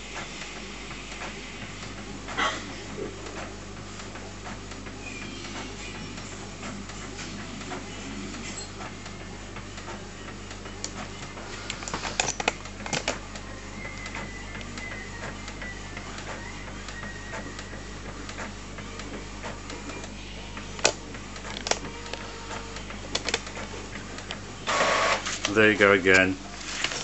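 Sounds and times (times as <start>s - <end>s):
printer mechanical whir: 0.0s - 27.0s
printer clicks: 3.2s - 27.0s.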